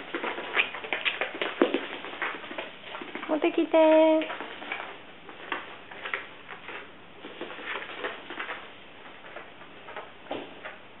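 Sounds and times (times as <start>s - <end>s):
dog paws pattering on a mat: 0.0s - 11.0s.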